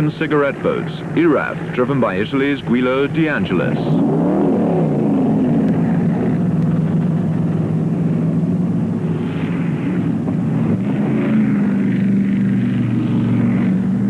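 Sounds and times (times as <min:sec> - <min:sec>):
powerboat engines droning: 0:00.0 - 0:14.0.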